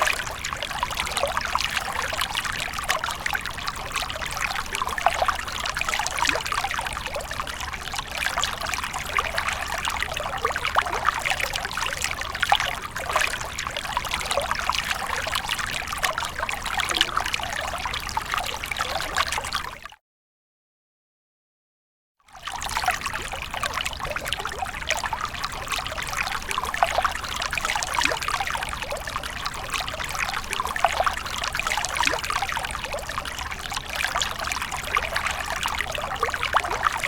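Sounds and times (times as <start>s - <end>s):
stream trickling and babbling: 0.0s - 20.0s, 22.3s - 37.0s.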